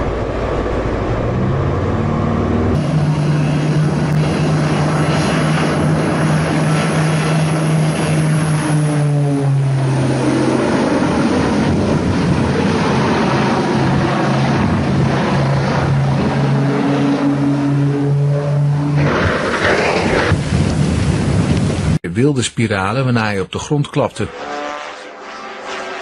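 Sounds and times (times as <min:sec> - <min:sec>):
loud rushing noise: 0:00.0 - 0:22.0
propeller aircraft engine: 0:00.0 - 0:22.0, 0:24.1 - 0:26.0.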